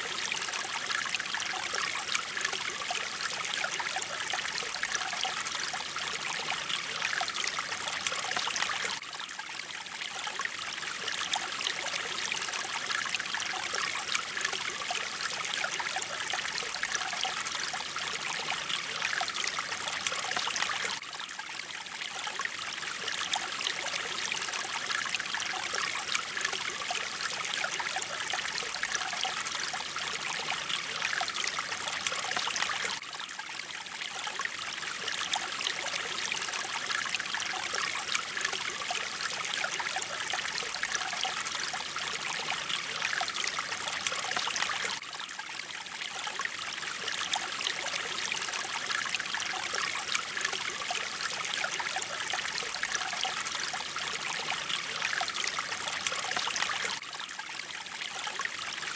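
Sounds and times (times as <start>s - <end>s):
stream running and trickling: 0.0s - 58.9s.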